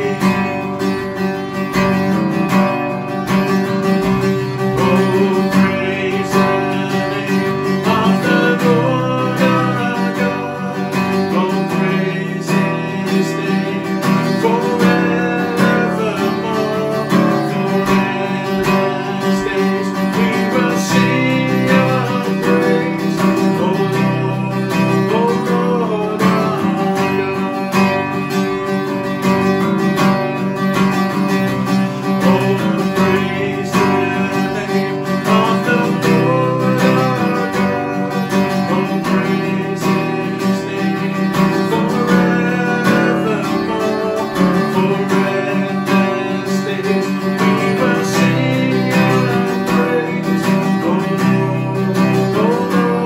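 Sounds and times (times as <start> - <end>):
man singing: 0.0 - 53.0
strummed acoustic guitar: 0.0 - 53.0.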